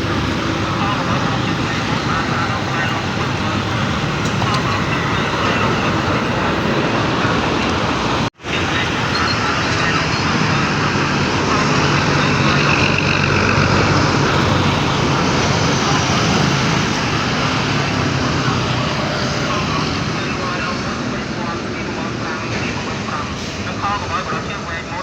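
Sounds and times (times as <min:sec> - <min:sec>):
truck diesel engine running: 0:00.0 - 0:21.0
road traffic: 0:00.0 - 0:25.0.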